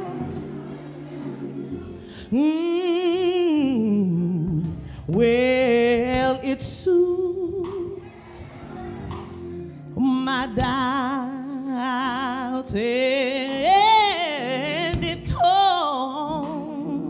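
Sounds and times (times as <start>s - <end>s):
woman singing gospel song: 0.0s - 0.8s, 2.0s - 8.5s, 10.0s - 17.0s.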